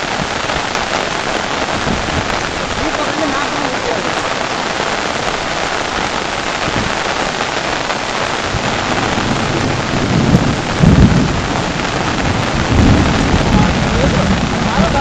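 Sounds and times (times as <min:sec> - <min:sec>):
low rumbling thumps: 0:00.0 - 0:03.2, 0:04.0 - 0:07.2, 0:08.1 - 0:15.0
heavy rain pattering: 0:00.0 - 0:15.0.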